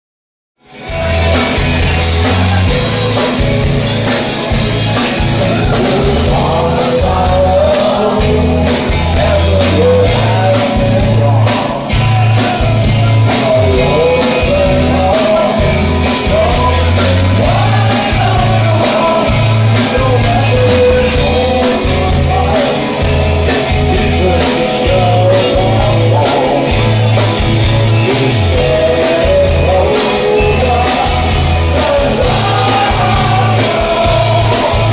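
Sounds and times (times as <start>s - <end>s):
band playing live: 0.6s - 34.9s
pulsing drum and bass beat: 0.8s - 34.9s.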